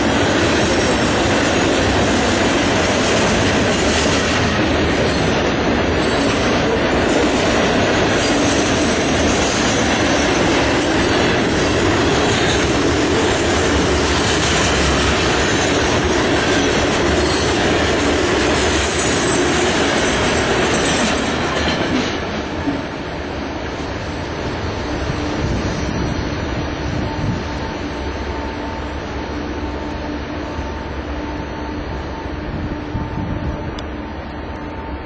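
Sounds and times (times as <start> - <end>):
train wheels rolling over rails: 0.0 - 35.0.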